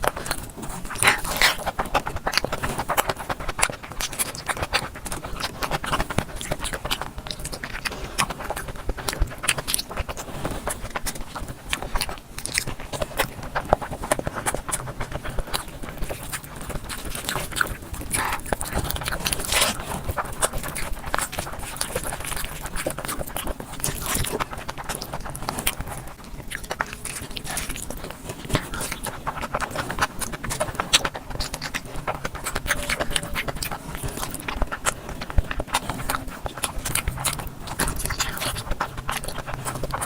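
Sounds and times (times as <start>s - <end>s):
chewing mouth clicks and smacks: 0.0s - 40.0s.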